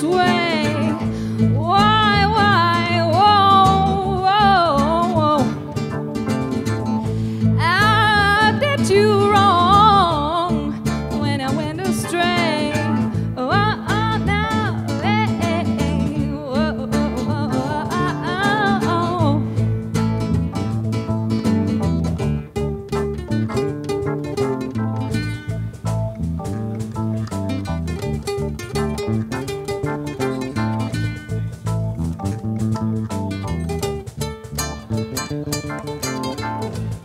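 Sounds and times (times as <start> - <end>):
guitar accompaniment: 0.0 - 37.0
live rock band playing: 0.0 - 37.0
sliding melody line: 0.0 - 37.0.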